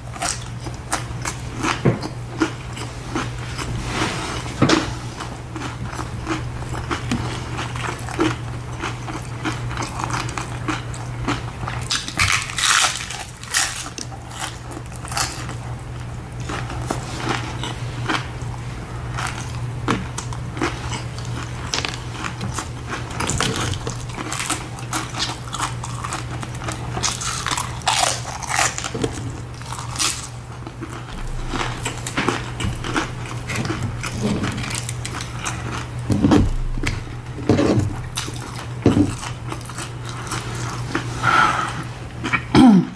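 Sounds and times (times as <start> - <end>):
person biting and chewing: 0.1 - 3.8, 4.7 - 41.2.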